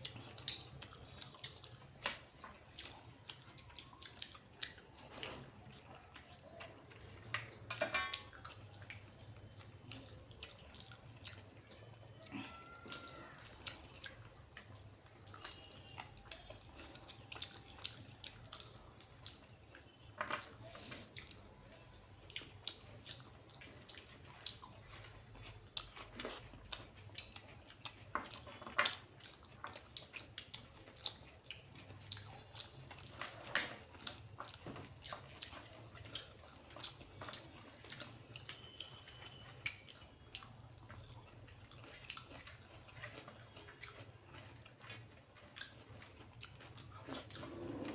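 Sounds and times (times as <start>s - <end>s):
chewing with mouth smacks: 0.0s - 47.9s.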